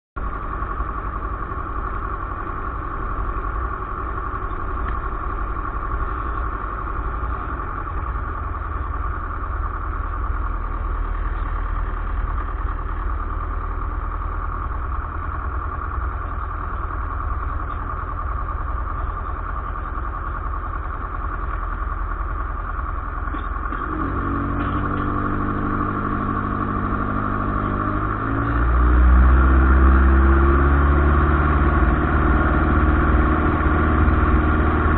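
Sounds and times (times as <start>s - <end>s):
light aircraft engine: 0.2s - 34.9s.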